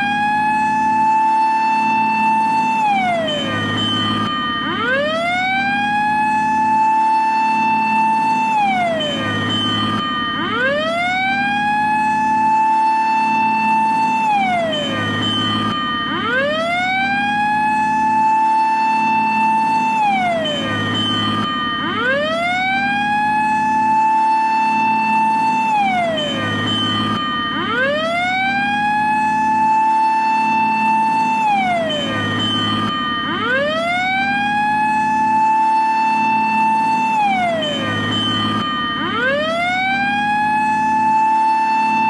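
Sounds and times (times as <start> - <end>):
fire engine siren wailing: 0.0 - 42.0.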